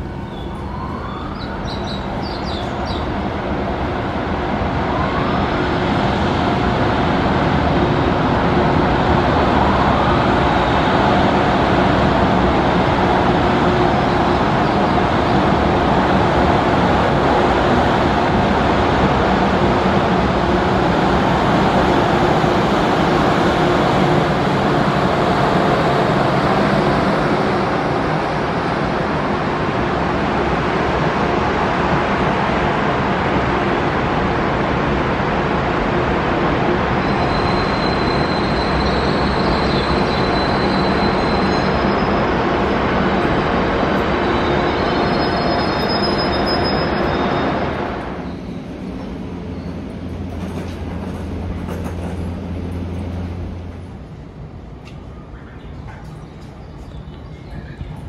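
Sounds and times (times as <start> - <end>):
electric train rumbling: 0.0 - 58.0.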